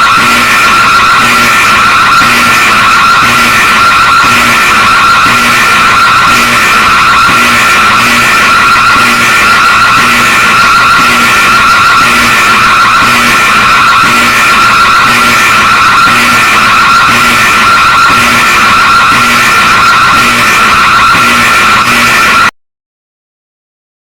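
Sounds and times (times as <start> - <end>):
warbling emergency alarm tone: 0.0 - 22.5.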